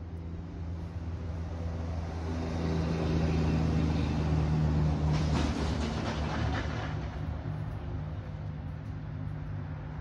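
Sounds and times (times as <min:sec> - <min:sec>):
engine running with low hum: 0:00.0 - 0:10.0.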